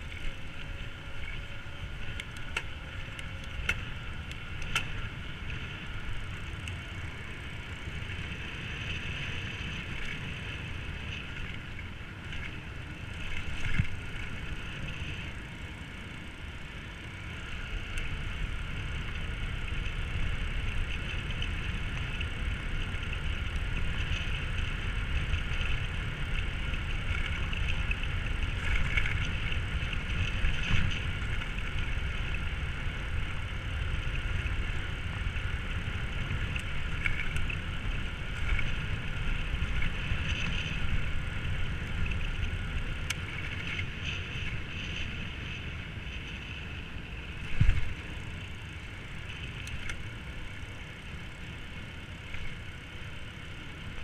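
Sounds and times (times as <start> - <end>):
high motor whine: 0.0 - 54.0
wind rumbling on microphone: 0.0 - 54.0.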